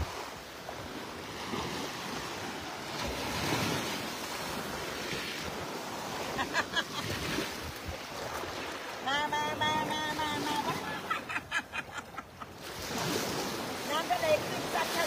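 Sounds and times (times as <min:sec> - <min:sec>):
small waves lapping on sand: 0:00.0 - 0:15.0.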